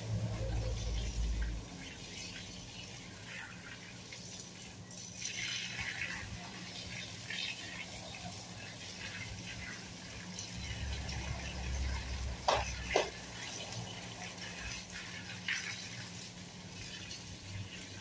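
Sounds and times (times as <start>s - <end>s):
garden hose spraying water: 0.0s - 18.0s.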